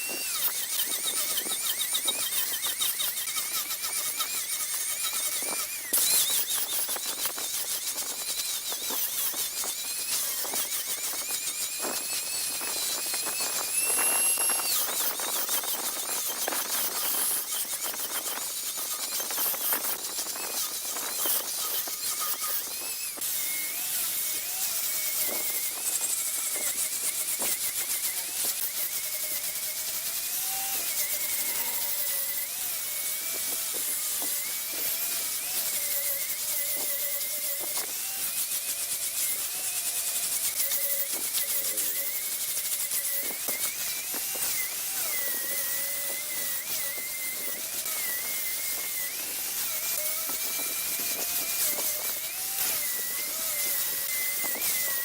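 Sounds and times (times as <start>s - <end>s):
lathe tool squealing on wood: 0.0s - 55.0s
small ticks and scrapes: 0.0s - 55.0s.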